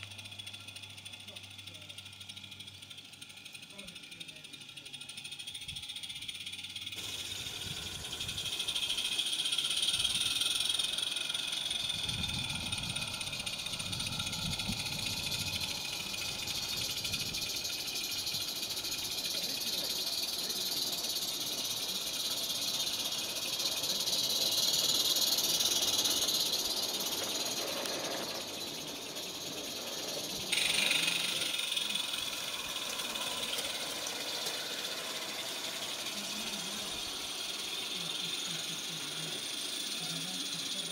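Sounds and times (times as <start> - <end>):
model train hiss and whirr: 0.0 - 40.9
wheels rumbling on rails: 0.0 - 40.9.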